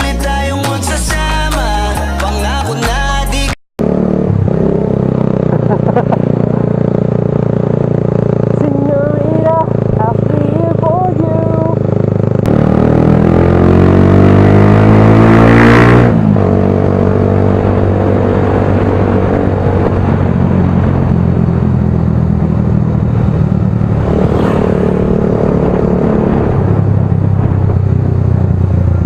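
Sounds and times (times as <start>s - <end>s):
motorcycle accelerating: 3.8s - 29.0s.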